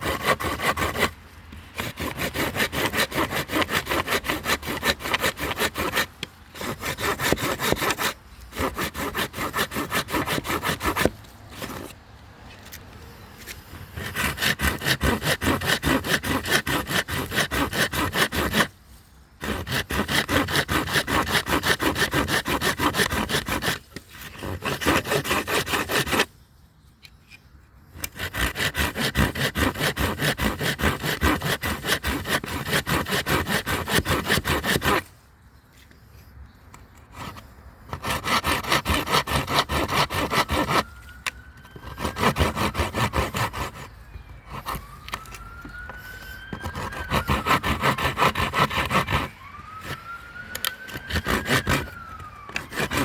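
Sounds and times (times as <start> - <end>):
saw cutting strokes: 0.0 - 12.8, 13.4 - 26.3, 27.3 - 35.2, 36.7 - 53.0.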